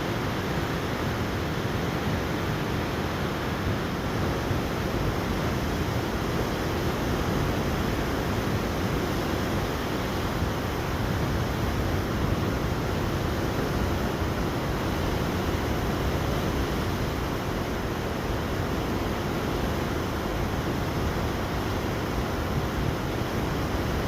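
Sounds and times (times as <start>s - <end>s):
river rushing and churning: 0.0s - 24.0s.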